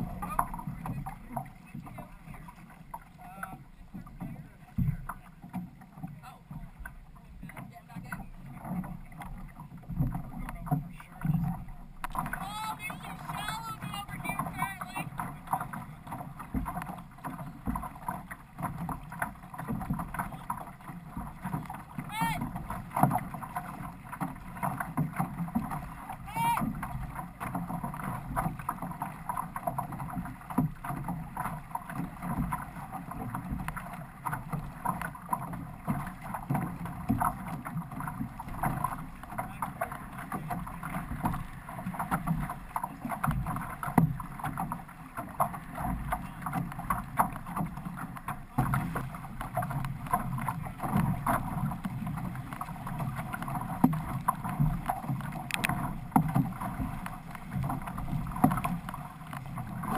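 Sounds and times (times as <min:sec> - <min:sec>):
paddles splashing in water: 0:00.0 - 0:59.9
water rushing past hull: 0:00.0 - 0:59.9.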